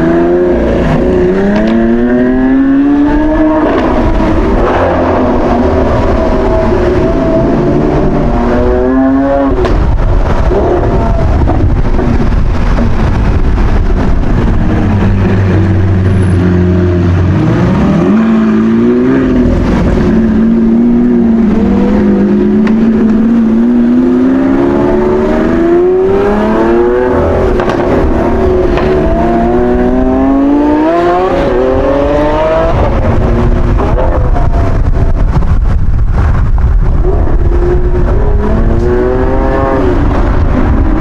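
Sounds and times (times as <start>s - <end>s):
sports car engine accelerating: 0.0s - 35.3s, 37.0s - 41.0s.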